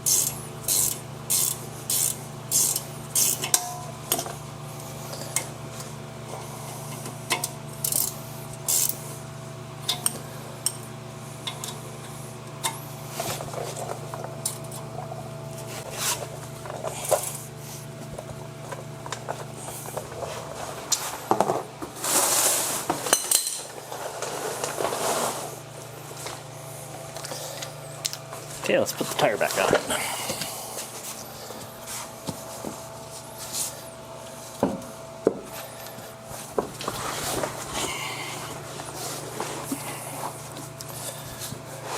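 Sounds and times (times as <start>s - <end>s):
steady background hum: 0.0s - 41.9s.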